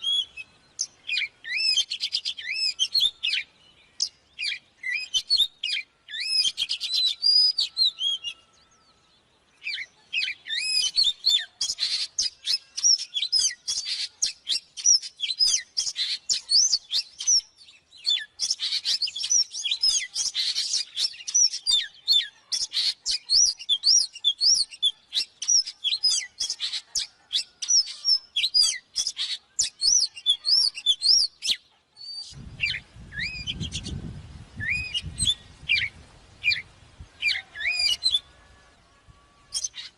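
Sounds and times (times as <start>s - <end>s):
bird whistling song: 0.0s - 9.0s, 9.6s - 38.4s, 39.4s - 39.9s.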